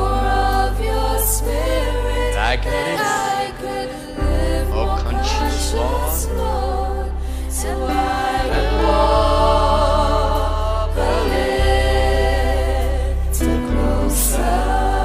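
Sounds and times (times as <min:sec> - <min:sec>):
steady bass: 0:00.0 - 0:02.9, 0:03.6 - 0:15.0
voices singing with vibrato: 0:00.0 - 0:15.0.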